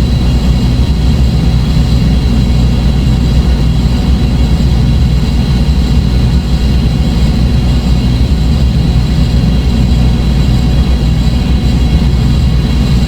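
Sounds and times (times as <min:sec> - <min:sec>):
low synthesizer drone: 0:00.0 - 0:13.0.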